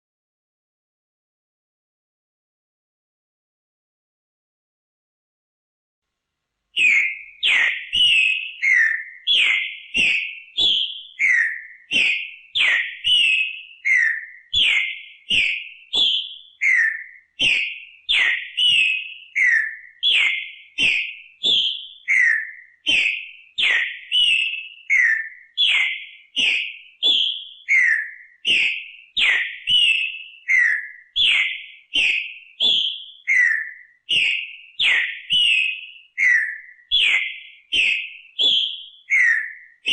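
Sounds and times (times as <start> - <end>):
bird whistling song: 6.7 - 39.9.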